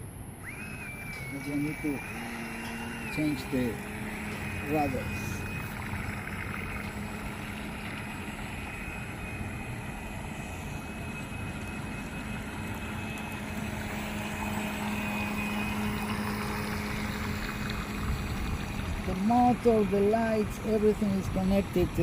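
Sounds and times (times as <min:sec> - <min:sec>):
model boat motor humming: 0:00.0 - 0:22.0.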